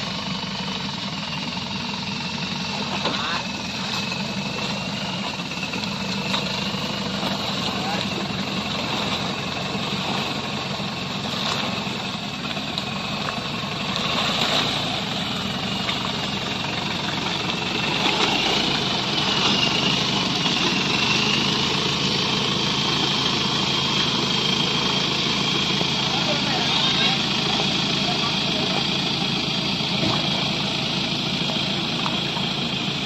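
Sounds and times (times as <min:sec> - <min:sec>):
pickup engine at low revs: 0:00.0 - 0:33.0.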